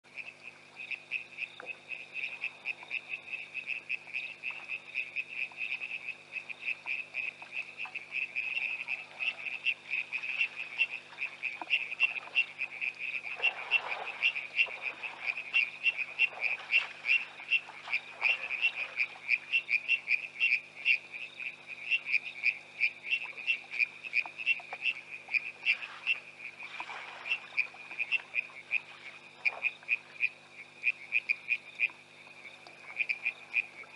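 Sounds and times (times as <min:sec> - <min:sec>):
chorus of frogs calling: 0:00.1 - 0:33.9.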